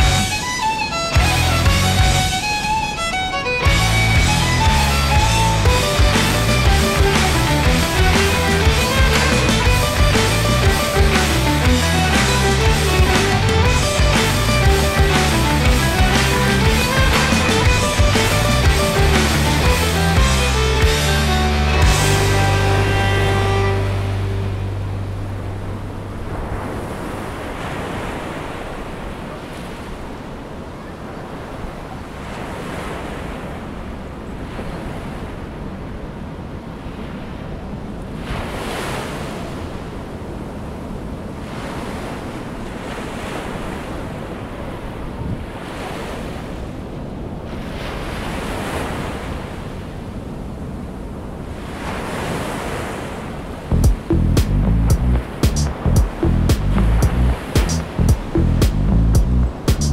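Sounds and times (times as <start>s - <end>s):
wind rumbling on microphone: 0.0s - 20.2s, 23.7s - 59.9s
ocean surf breaking: 0.0s - 59.8s.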